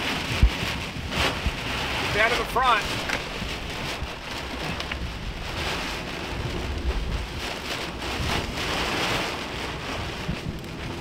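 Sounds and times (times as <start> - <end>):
heavy rain pounding a truck: 0.0 - 11.0
low rumble: 0.0 - 11.0.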